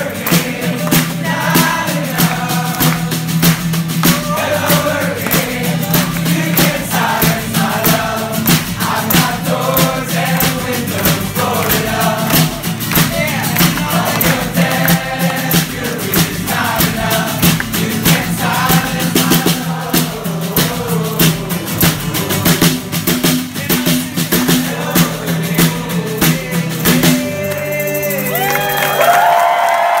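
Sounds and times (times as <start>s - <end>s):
steady beat: 0.0s - 28.5s
voices singing together: 0.0s - 29.1s
acoustic guitar: 0.0s - 29.6s.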